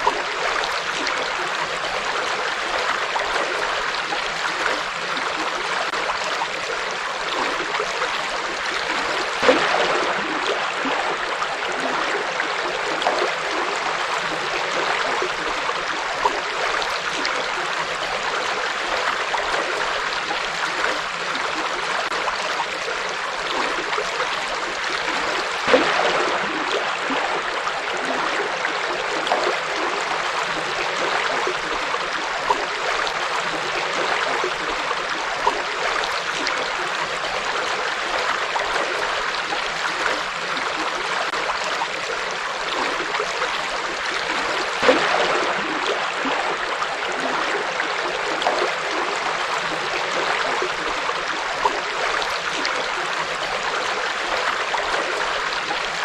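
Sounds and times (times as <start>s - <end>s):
forest river flowing: 0.0s - 56.0s.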